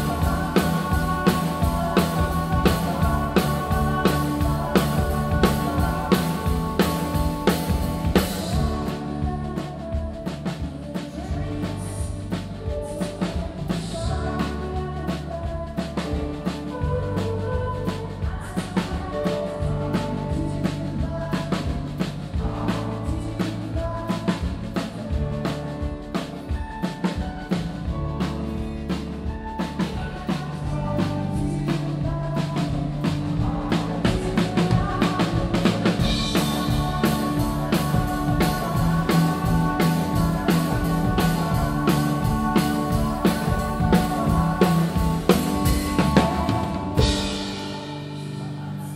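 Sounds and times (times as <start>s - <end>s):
electric guitar: 0.0s - 14.9s, 24.5s - 48.9s
bass guitar: 0.0s - 48.9s
drum kit beat: 0.0s - 48.9s.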